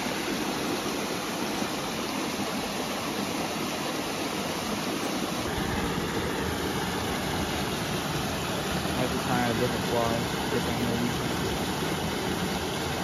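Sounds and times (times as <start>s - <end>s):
stream tumbling over rocks: 0.0s - 13.0s.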